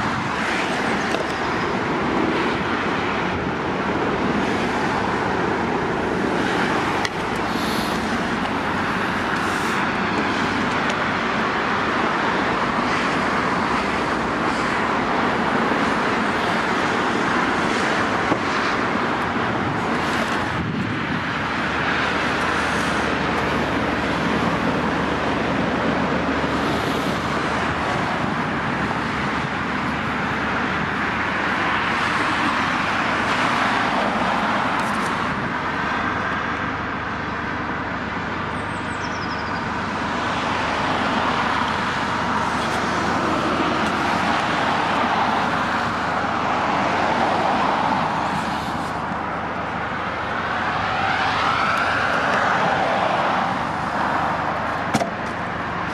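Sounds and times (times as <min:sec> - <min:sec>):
passing vehicles rushing: 0:00.0 - 0:55.9.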